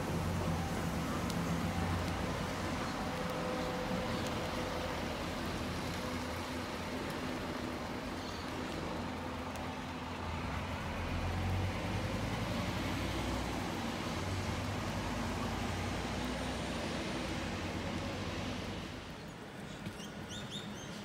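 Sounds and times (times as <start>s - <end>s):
road traffic hum: 0.0s - 21.0s
steady outdoor hiss: 0.0s - 21.0s.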